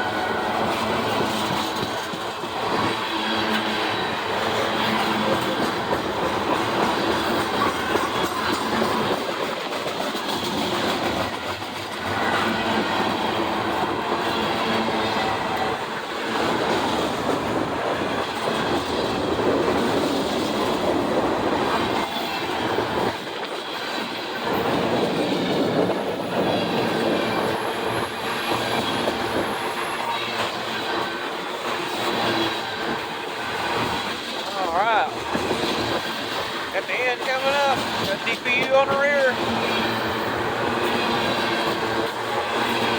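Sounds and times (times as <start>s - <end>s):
train wheels rumbling and clattering: 0.0s - 42.9s.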